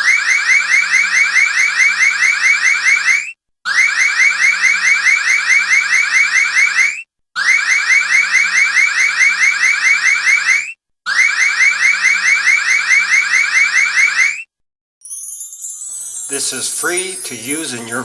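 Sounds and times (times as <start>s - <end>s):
electronic alarm rising chirps: 0.0s - 14.5s.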